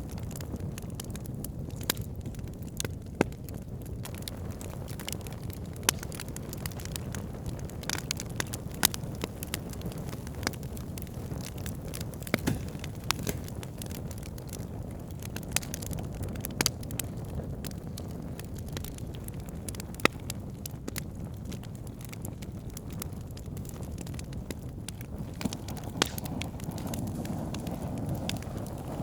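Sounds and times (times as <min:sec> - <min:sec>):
burning wood crackling: 0:00.0 - 0:29.0
rush of flames: 0:00.0 - 0:29.0.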